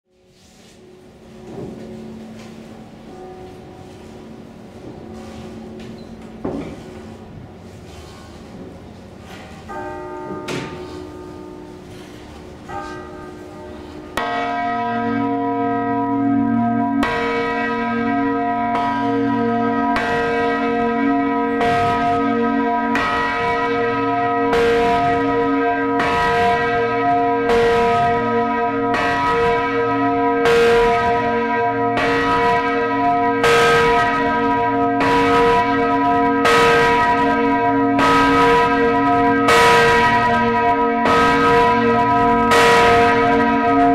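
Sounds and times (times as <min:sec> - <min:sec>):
large church bells ringing: 0:00.1 - 0:43.9.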